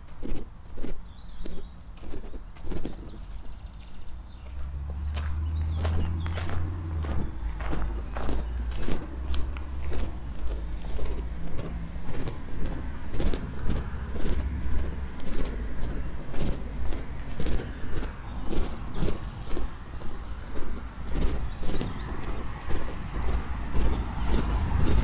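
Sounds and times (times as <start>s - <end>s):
footsteps on pavement: 0.0s - 25.0s
low rumble of road traffic: 0.0s - 25.0s.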